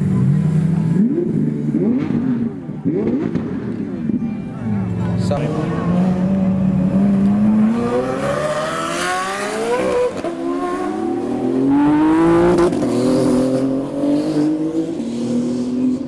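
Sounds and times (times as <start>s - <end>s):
sports car engine accelerating: 0.0s - 4.2s, 4.9s - 16.0s.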